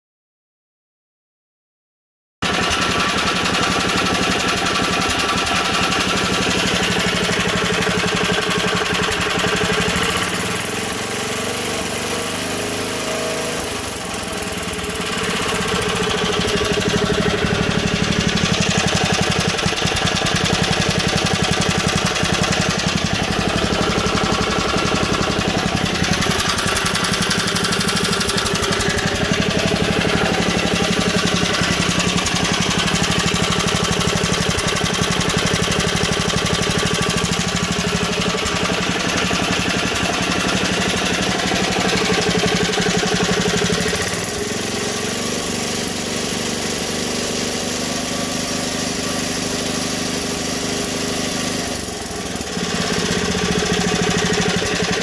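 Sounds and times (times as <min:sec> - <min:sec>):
small four-stroke engine running: 0:02.4 - 0:55.0.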